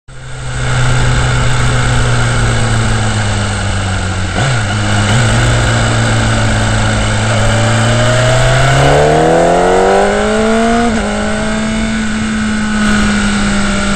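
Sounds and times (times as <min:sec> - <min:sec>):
motorcycle engine running: 0:00.1 - 0:13.9
wind noise: 0:00.3 - 0:13.9.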